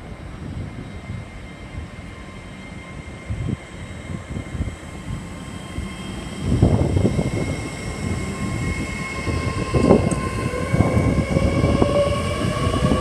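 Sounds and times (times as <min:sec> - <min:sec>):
train running slowly: 0:00.0 - 0:13.0.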